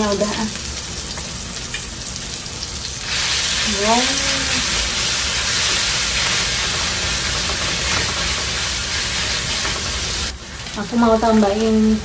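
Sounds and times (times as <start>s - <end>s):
spice paste sizzling in hot oil: 0.0s - 12.0s.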